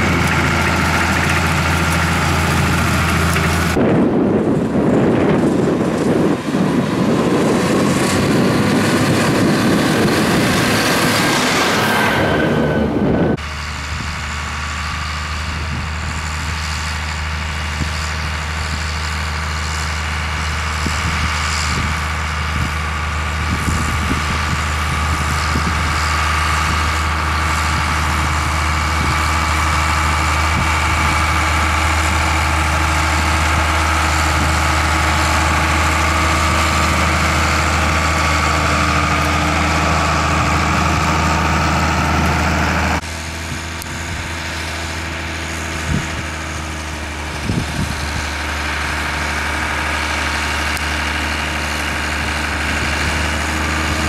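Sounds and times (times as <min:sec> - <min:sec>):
tractor diesel engine: 0:00.0 - 0:54.0
whine: 0:00.0 - 0:54.0.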